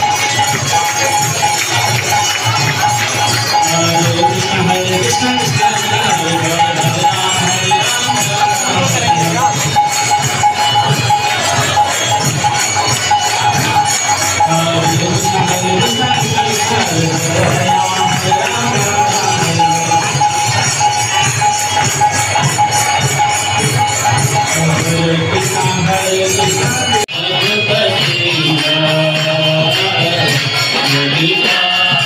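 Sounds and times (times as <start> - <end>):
crowd singing a devotional chant: 0.0 - 32.0
hand cymbals jingling: 0.0 - 32.0.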